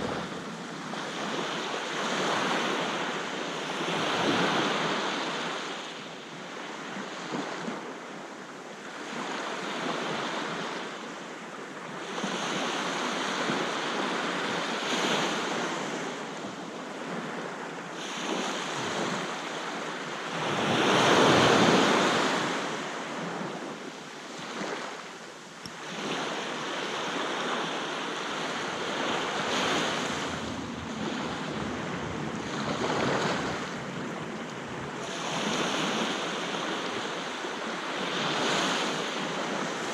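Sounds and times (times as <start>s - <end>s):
sea waves breaking on beach: 0.0s - 7.9s, 11.6s - 39.9s.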